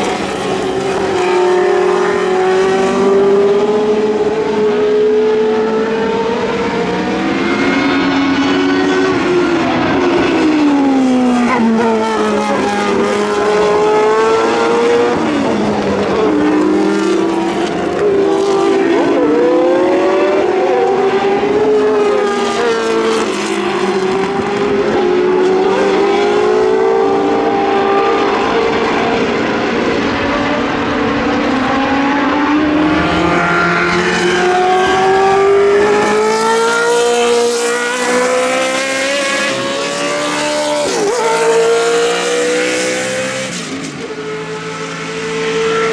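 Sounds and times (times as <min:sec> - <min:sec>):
racing car engines passing: 0:00.0 - 0:45.9.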